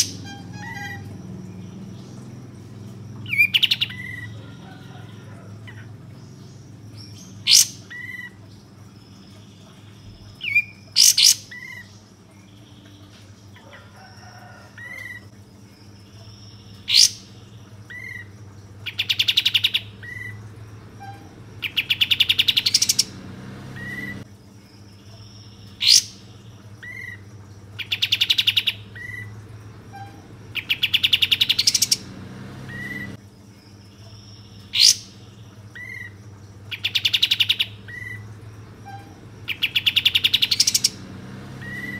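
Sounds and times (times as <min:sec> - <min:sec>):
bird singing with rattling trill: 0:00.0 - 0:41.9.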